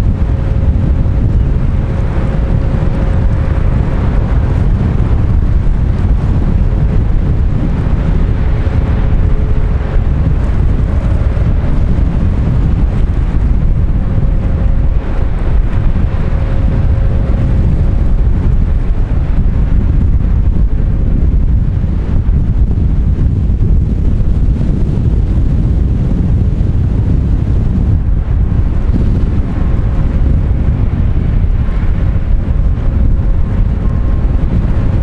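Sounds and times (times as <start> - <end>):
tugboat engines droning: 0.0 - 35.0
wind rumble on microphone: 0.0 - 35.0.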